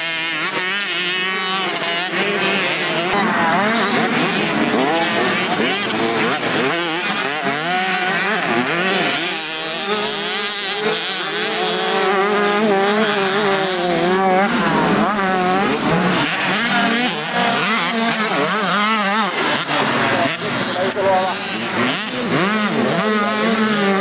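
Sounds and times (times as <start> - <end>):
motocross bikes revving: 0.0 - 24.0.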